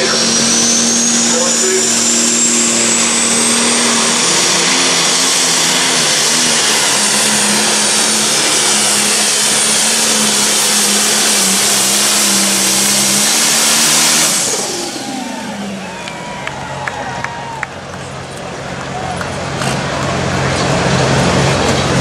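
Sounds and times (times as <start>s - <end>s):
diesel engine under heavy load: 0.0s - 22.0s.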